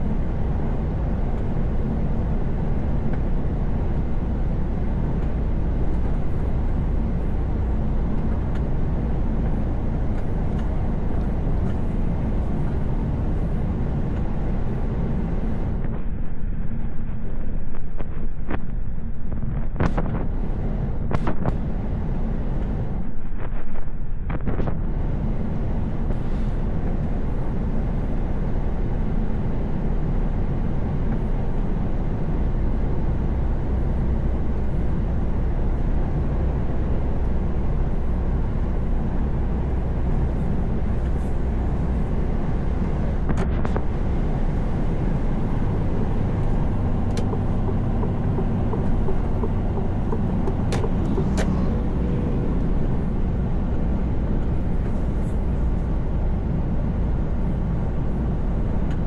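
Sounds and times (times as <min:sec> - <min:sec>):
road noise: 0:00.0 - 0:59.0
truck diesel engine cruising: 0:00.0 - 0:59.0.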